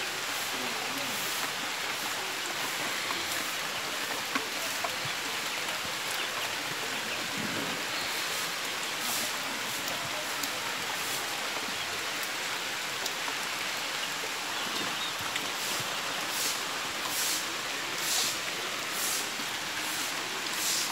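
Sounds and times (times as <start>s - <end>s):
steady rain hiss: 0.0s - 20.9s.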